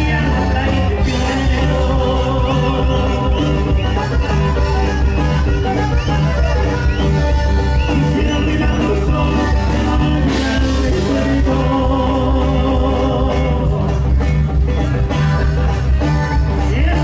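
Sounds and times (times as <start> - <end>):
heavy bass line: 0.0 - 17.0
live band playing: 0.0 - 17.0.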